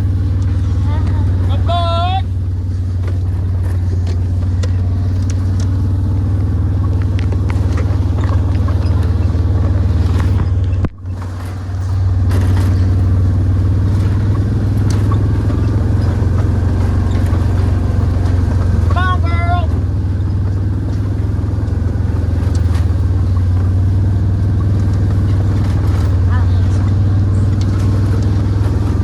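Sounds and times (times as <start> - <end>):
small rattles and clicks: 0.0 - 29.0
vehicle engine running: 0.0 - 29.0.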